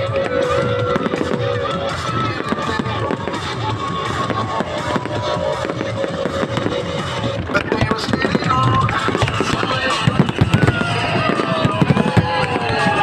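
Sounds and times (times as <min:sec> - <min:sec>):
fireworks bursting and crackling: 0:00.0 - 0:13.0
music from outdoor loudspeaker: 0:00.0 - 0:13.0.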